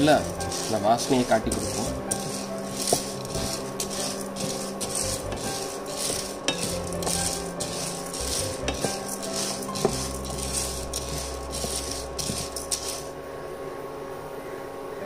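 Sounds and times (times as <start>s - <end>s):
lentils rattling in a frying pan: 0.0s - 13.2s.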